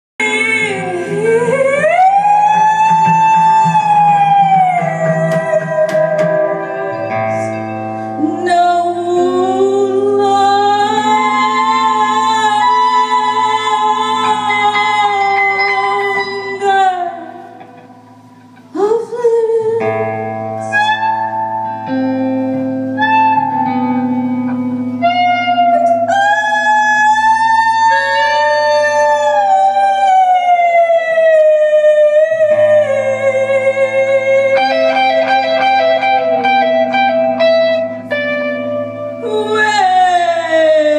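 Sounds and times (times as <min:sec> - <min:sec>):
electric guitar drones: 0:00.2 - 0:40.9
person singing long bending notes: 0:00.2 - 0:40.9.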